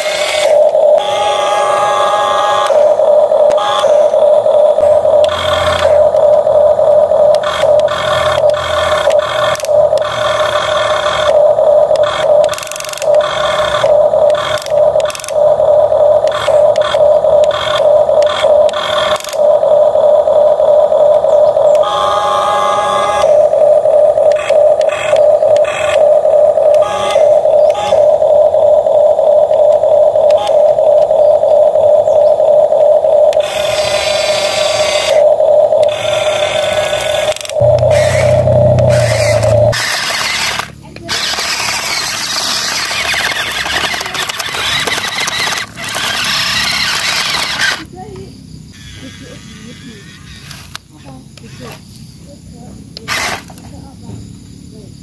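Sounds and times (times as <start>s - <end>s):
loud steady buzz: 0.0s - 51.6s
small electric motor whining: 0.0s - 52.0s, 53.0s - 53.6s.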